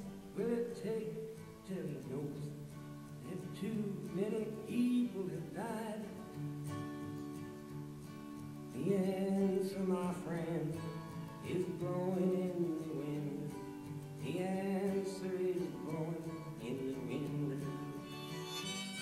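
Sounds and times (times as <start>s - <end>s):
person singing folk song: 0.0s - 19.0s
strummed acoustic guitar: 0.0s - 19.0s.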